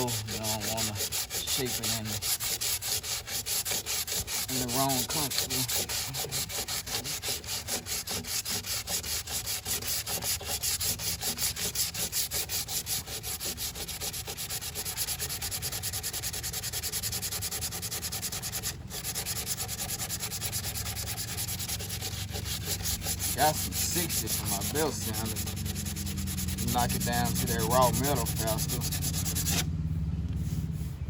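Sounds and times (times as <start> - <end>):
sandpaper scraping car panel: 0.0 - 29.7, 30.3 - 31.0.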